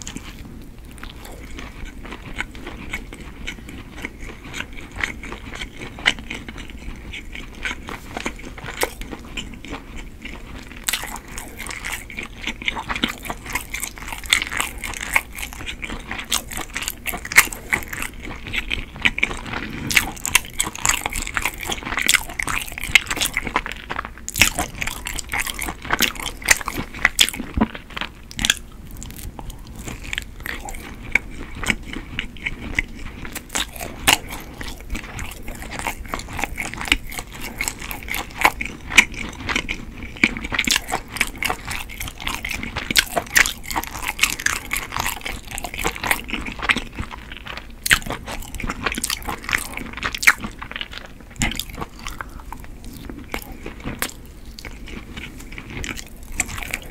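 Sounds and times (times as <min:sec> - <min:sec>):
chewing sticky rice cake: 0:00.0 - 0:56.9.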